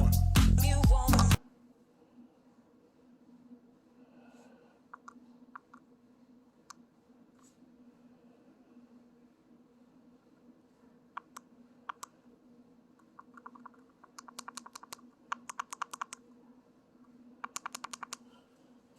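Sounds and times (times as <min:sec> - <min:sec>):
faint steady hum: 0:00.0 - 0:18.9.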